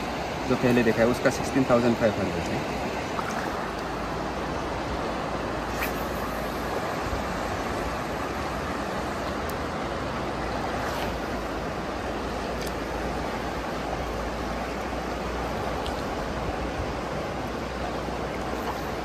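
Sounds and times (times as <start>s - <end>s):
fast-flowing river rushing: 0.0s - 19.0s.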